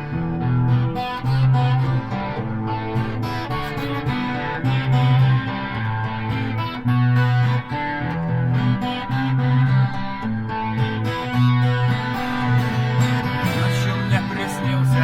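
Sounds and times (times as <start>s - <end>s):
guitars over bass line: 0.0s - 15.0s.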